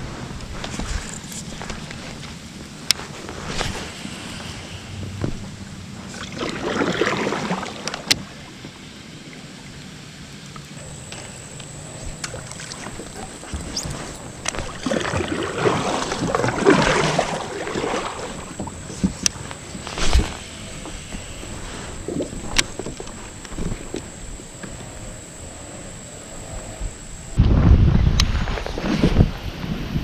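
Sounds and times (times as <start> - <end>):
water splashing around kayak: 0.0 - 27.0.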